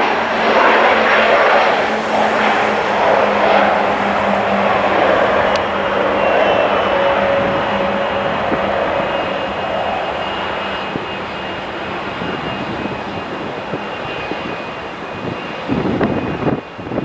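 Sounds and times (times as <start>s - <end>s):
airliner engines rushing: 0.0s - 17.0s.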